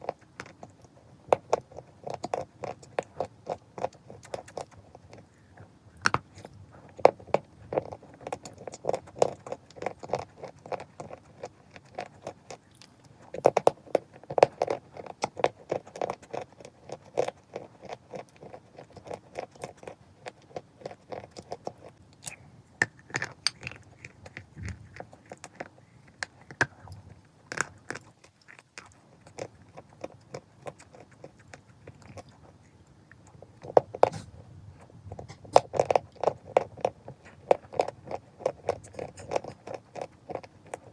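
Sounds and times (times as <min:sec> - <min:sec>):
chalk being chewed: 0:00.0 - 0:34.4, 0:35.2 - 0:40.9.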